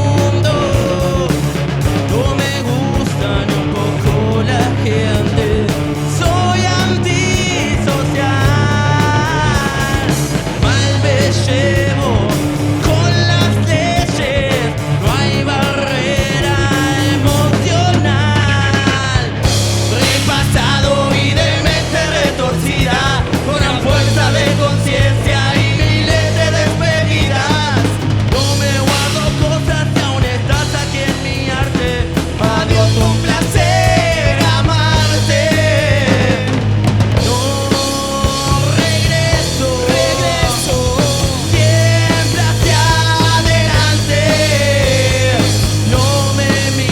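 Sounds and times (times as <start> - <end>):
bass guitar: 0.0 - 46.9
drums: 0.0 - 46.9
electric guitar: 0.0 - 46.9
person singing: 0.0 - 46.9.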